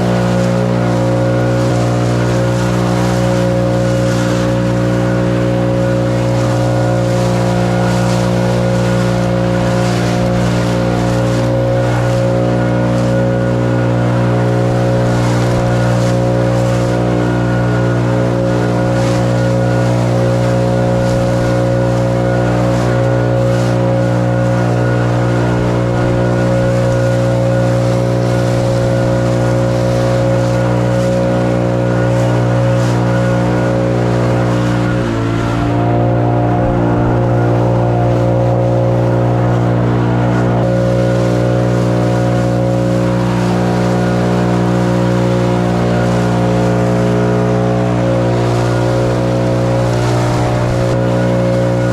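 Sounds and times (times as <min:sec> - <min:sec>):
small gasoline engine running: 0:00.0 - 0:51.9.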